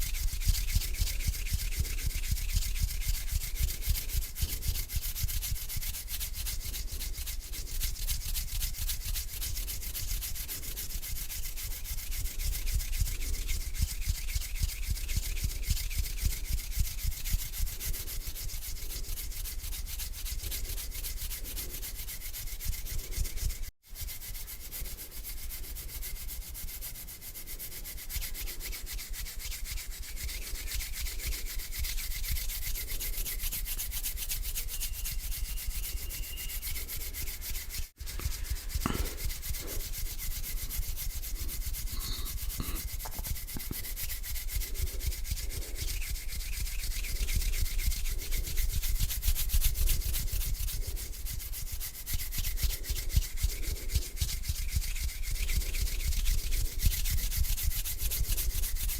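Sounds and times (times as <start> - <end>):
hands rubbing together: 0.0 - 58.9.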